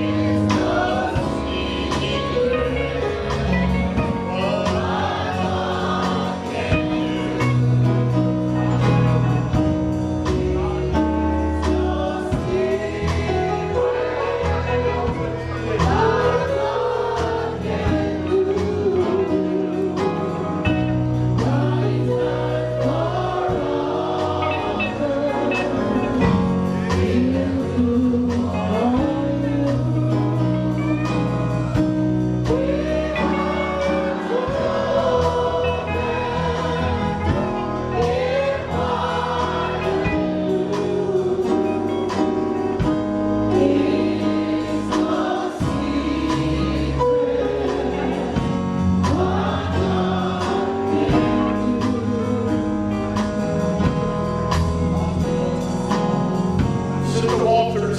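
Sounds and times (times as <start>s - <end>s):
gospel choir singing: 0.0s - 57.9s
steady drum beat: 0.0s - 57.9s
sustained bass notes: 0.0s - 57.9s.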